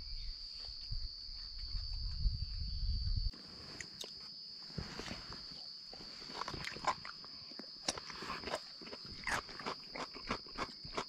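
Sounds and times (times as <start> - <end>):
insect chorus droning: 0.0 - 11.0.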